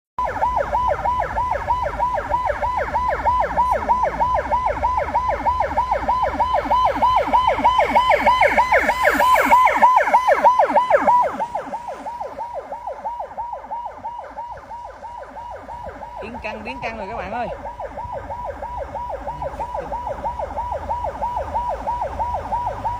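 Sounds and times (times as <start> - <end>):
emergency vehicle siren wailing: 0.2 - 22.9
low traffic rumble: 0.2 - 22.9.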